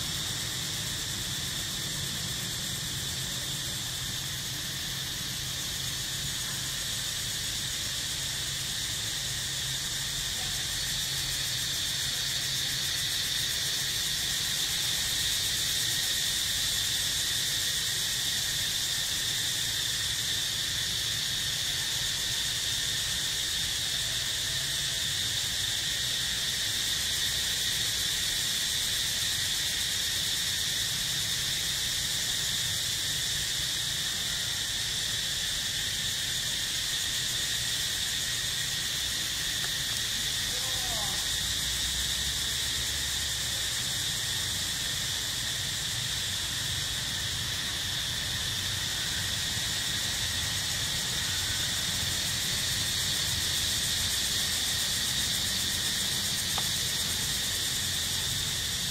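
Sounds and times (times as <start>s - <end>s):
insects droning: 0.0s - 58.9s.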